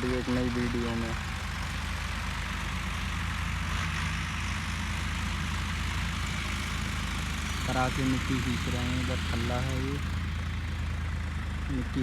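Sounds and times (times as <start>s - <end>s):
diesel tractor engine drone: 0.0s - 12.0s.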